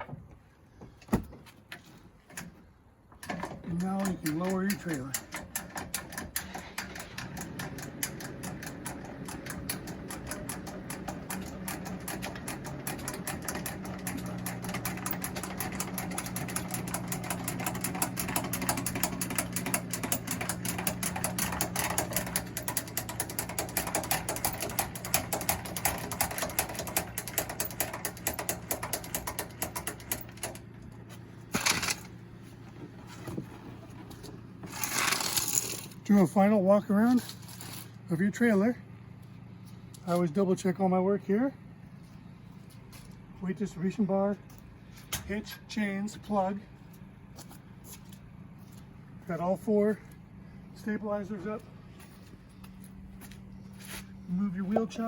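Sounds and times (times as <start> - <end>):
trailer jack whirring and clicking: 0.0 - 55.0.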